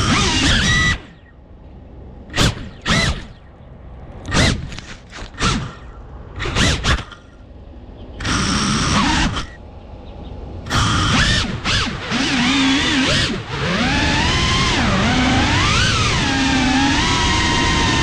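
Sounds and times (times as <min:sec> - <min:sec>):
drone motors spinning up: 0:00.0 - 0:01.3, 0:02.3 - 0:03.5, 0:04.2 - 0:07.4, 0:08.2 - 0:09.6, 0:10.7 - 0:18.0.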